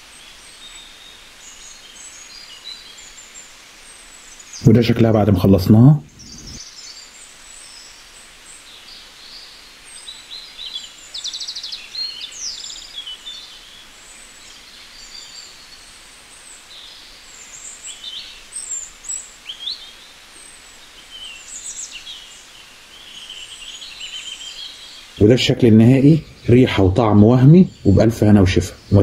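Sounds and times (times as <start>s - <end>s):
faint steady hiss: 0.0s - 29.0s
small birds chirping and trilling: 0.0s - 29.0s.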